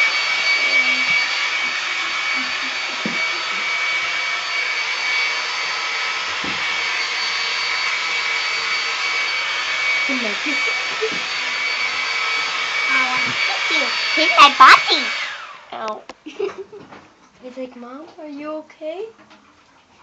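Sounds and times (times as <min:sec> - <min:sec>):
hair dryer running: 0:00.0 - 0:16.6.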